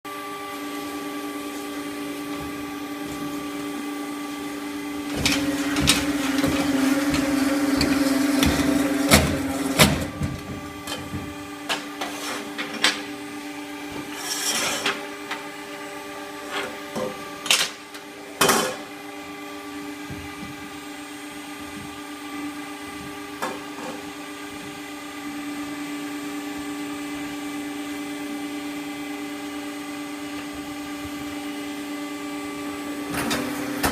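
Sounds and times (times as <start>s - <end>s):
motor hum: 0.1s - 33.9s.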